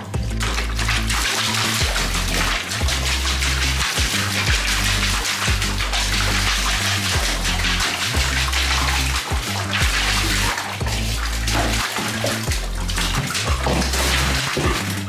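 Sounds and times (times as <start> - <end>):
background music with bass: 0.0 - 15.0
tap water running into bathtub: 0.0 - 15.0
water splashing: 0.0 - 15.0.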